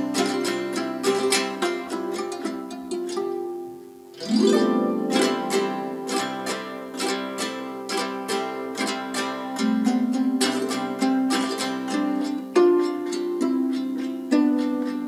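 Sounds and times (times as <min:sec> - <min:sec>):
plucked zither: 0:00.0 - 0:15.0.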